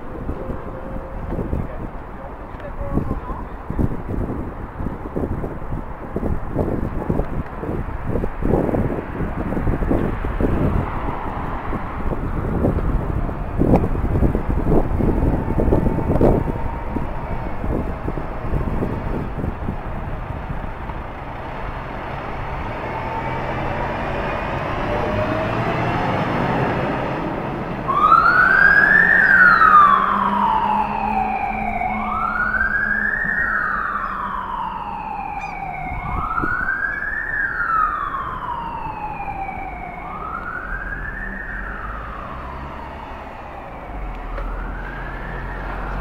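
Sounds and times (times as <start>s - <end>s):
fire engine siren wailing: 0.0s - 3.5s, 8.1s - 46.0s
truck engine noise: 0.0s - 46.0s.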